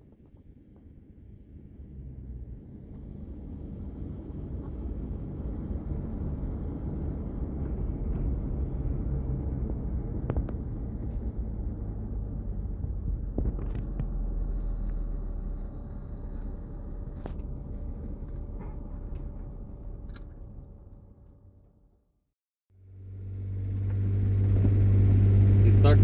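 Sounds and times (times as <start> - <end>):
car driving rumble inside vehicle: 0.0 - 21.2, 22.9 - 26.0.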